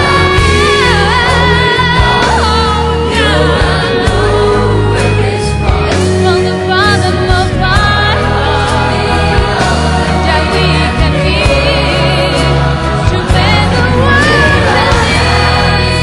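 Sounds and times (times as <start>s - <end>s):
choir-like backing vocals: 0.0s - 16.0s
uplifting pop song with vocals: 0.0s - 16.0s.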